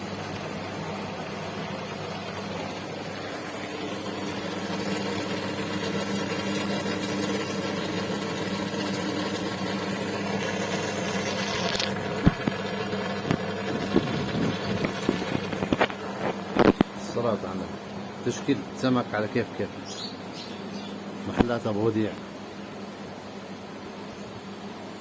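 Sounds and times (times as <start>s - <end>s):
aquarium air pumps humming: 0.0s - 25.0s.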